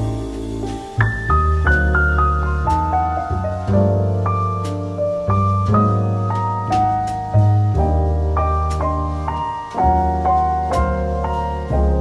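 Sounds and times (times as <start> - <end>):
sustained bass: 0.0 - 12.0.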